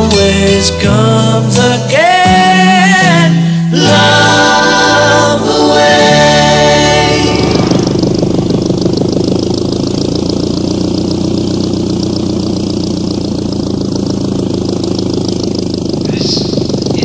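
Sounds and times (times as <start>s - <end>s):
propeller aircraft engine droning: 3.1s - 17.0s.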